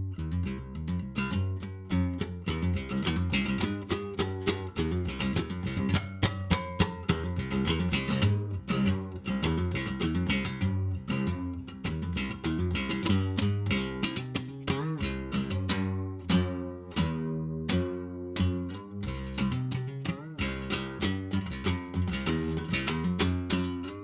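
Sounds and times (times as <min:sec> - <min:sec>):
guitar picking over bass line: 0:00.0 - 0:24.0.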